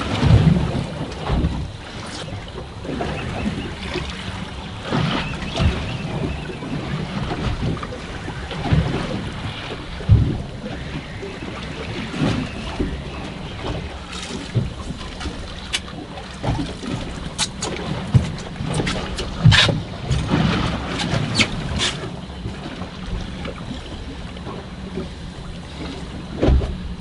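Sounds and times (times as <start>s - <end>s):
water slapping boat hull: 0.0s - 27.0s
wind buffeting microphone: 0.0s - 27.0s.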